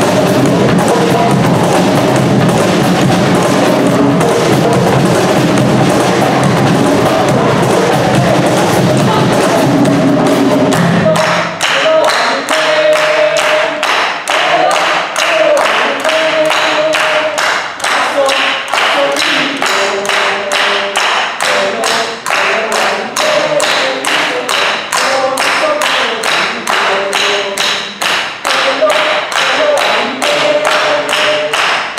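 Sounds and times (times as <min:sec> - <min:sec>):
hand drums playing: 0:00.0 - 0:31.9
rhythmic clapping: 0:00.0 - 0:31.9.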